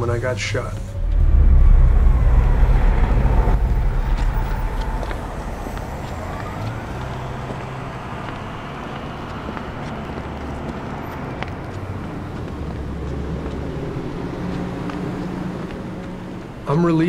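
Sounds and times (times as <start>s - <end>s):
traffic noise: 0.0s - 17.0s
vehicle engine rumble: 0.0s - 17.0s.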